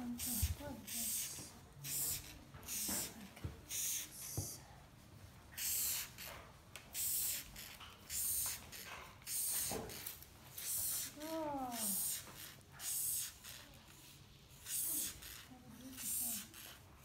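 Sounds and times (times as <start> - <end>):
spray bottle hissing puffs: 0.1 - 4.6, 5.6 - 16.8.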